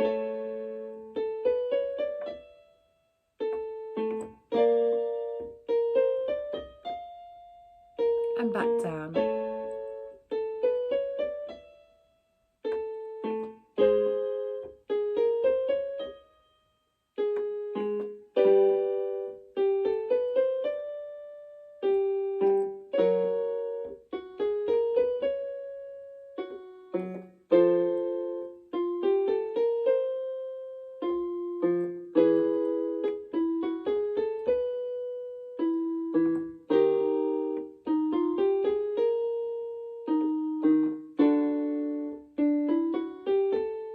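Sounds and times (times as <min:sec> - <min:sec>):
piano playing warm-up exercise: 0:00.0 - 0:43.9.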